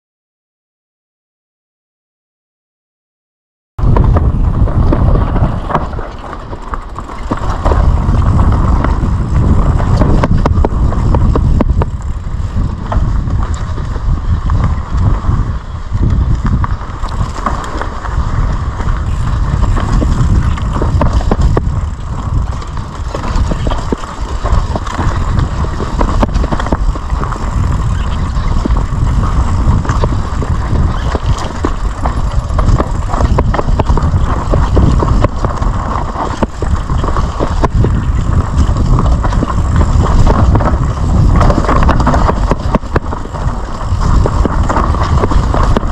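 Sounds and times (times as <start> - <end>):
bike rattling over bumps: 3.8 - 45.9
tyres rolling over dirt: 3.8 - 45.9
wind rumbling on microphone: 3.8 - 45.9.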